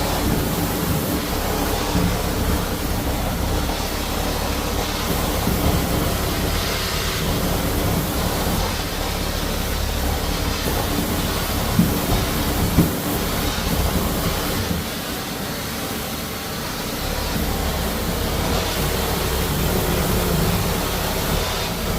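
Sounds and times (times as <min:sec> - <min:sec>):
floor-cleaning machine running: 0:00.0 - 0:21.9.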